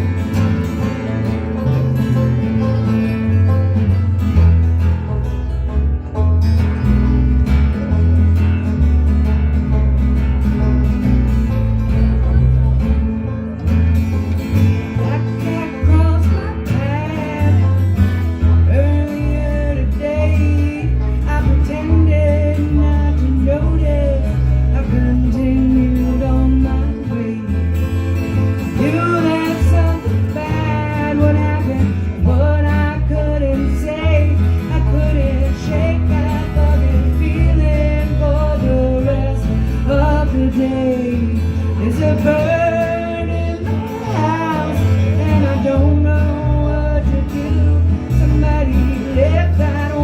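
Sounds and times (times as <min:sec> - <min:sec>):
acoustic country band playing: 0:00.0 - 0:50.0
bass line: 0:00.0 - 0:50.0
strummed guitar: 0:00.0 - 0:50.0.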